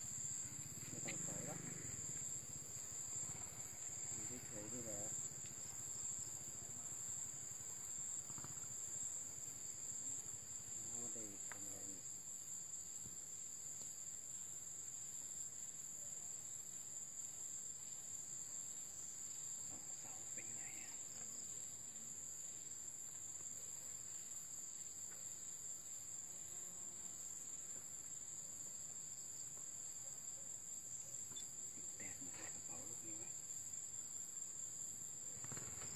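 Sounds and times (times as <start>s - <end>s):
crickets shrilling: 0.0s - 9.9s, 16.6s - 35.9s
insects trilling: 0.0s - 35.9s.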